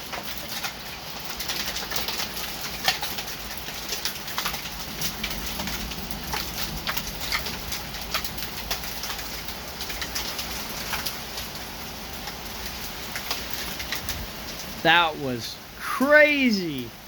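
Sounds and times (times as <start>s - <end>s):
hailstones clicking and knocking: 0.0s - 17.0s
hiss of rain and hail: 0.0s - 17.0s.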